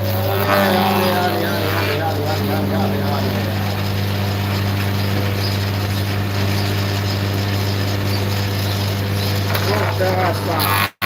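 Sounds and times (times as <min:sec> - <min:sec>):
motor humming: 0:00.0 - 0:10.9.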